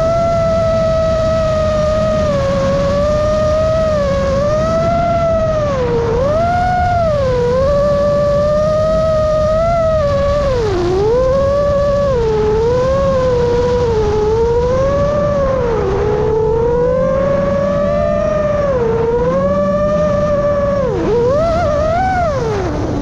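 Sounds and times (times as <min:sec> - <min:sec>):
drone motors whining: 0:00.0 - 0:23.0
wind rumble on microphone: 0:00.0 - 0:23.0.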